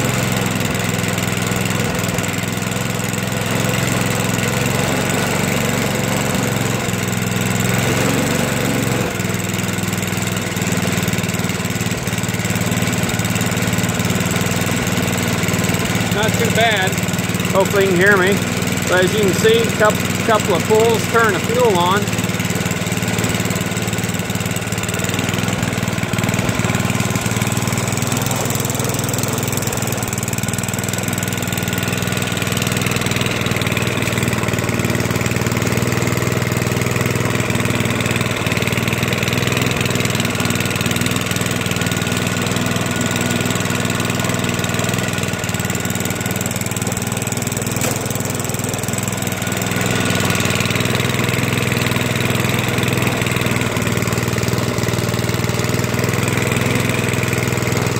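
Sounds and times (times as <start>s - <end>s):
snowblower engine running: 0.0s - 57.9s.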